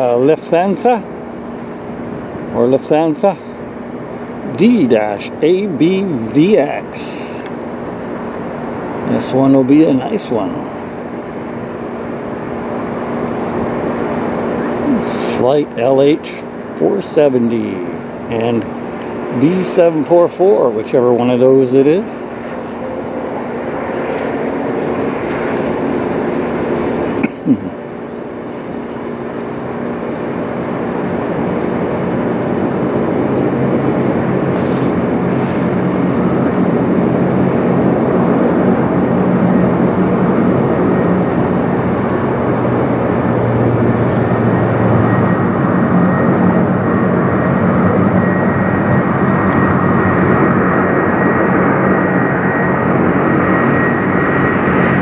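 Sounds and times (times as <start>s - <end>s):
jet high whine: 0.0s - 55.0s
jet rumble: 0.0s - 55.0s.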